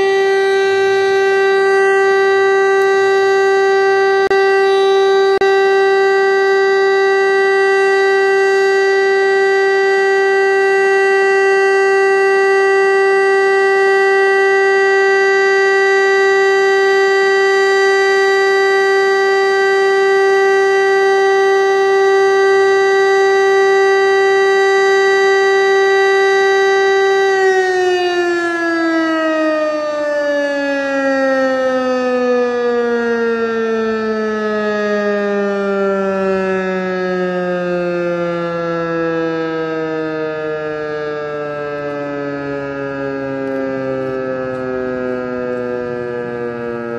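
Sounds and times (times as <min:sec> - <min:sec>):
civil defence siren steady tone: 0:00.0 - 0:46.9.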